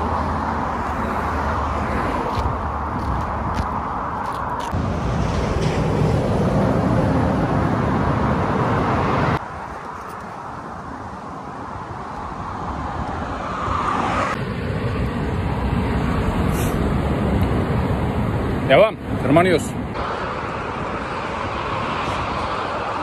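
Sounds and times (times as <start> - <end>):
vehicle passing by: 0.0 - 9.4, 12.6 - 23.0
highway traffic: 0.0 - 23.0
wind rushing on microphone: 0.0 - 23.0.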